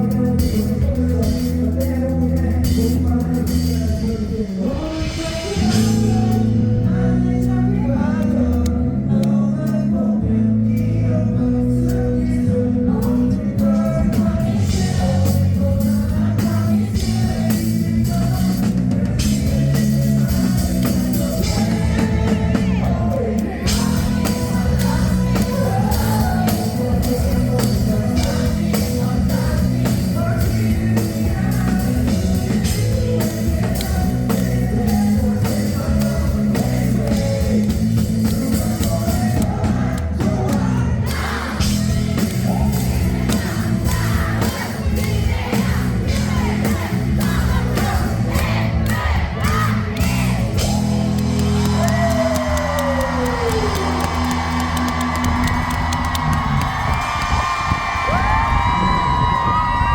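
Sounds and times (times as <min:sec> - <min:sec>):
man singing: 0:00.0 - 0:55.6
live rock band: 0:00.0 - 0:59.9.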